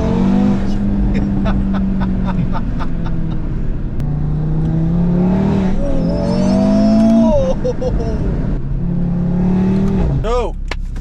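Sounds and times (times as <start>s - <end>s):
car engine revving while driving: 0.0s - 11.0s.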